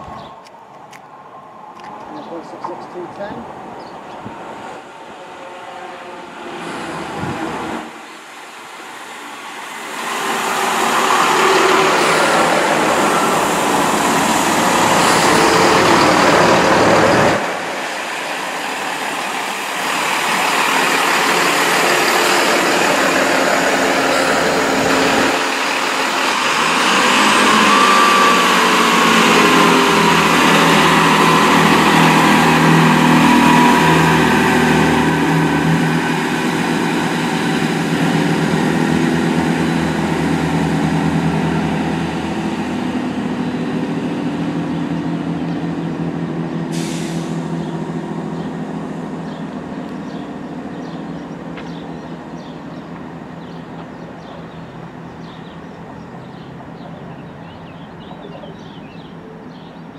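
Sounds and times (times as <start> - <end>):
diesel engine hum: 0.0 - 59.9
train wheels rushing on rail: 2.2 - 59.9.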